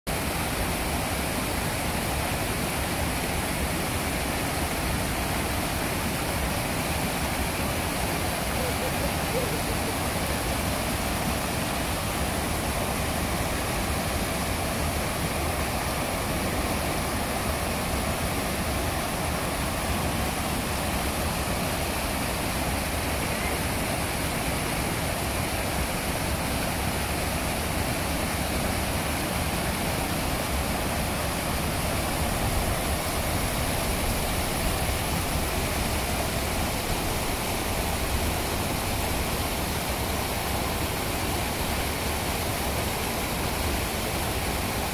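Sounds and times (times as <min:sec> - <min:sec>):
river rapids rushing: 0:00.1 - 0:44.9.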